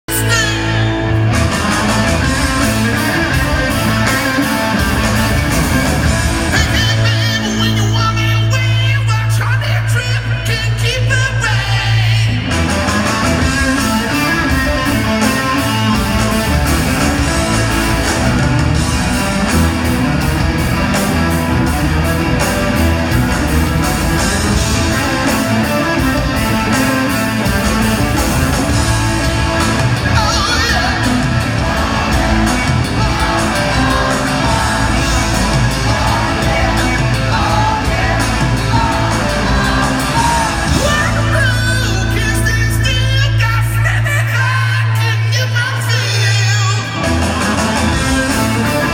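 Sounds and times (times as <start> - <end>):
rock music with singing: 0.0 - 48.9.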